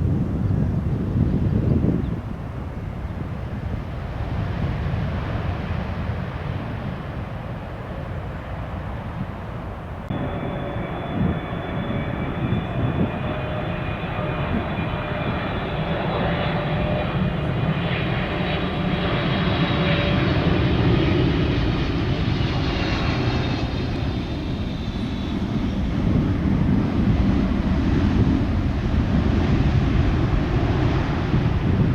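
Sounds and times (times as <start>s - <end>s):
jet engines whining and rumbling: 0.0s - 31.9s.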